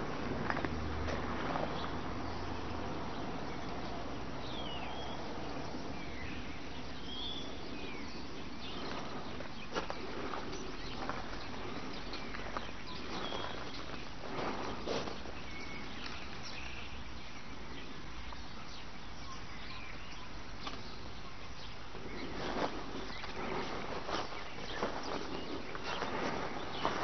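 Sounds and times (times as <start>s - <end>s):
steady background hiss: 0.0s - 27.0s
bird chirps: 1.8s - 27.0s.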